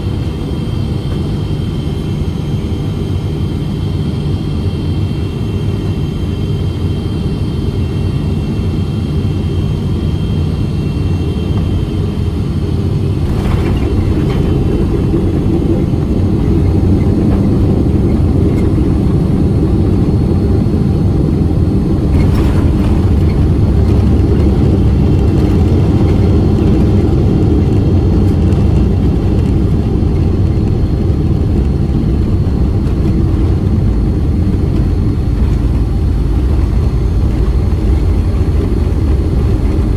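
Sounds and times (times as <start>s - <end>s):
high jet engine whine: 0.0s - 39.9s
low cabin rumble: 0.0s - 39.9s.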